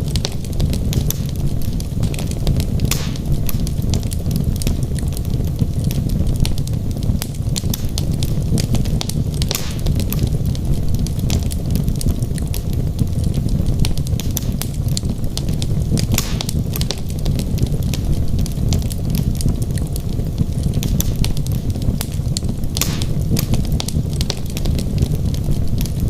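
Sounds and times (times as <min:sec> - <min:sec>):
flames rushing: 0:00.0 - 0:26.0
wood crackling and popping: 0:00.0 - 0:26.0.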